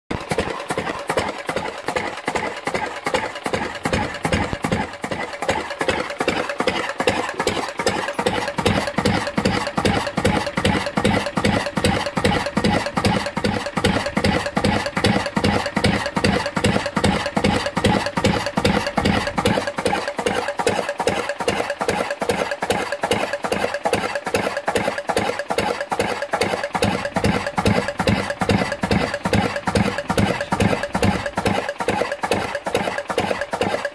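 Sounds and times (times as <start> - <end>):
diesel engine knocking beat: 0.1 - 33.9.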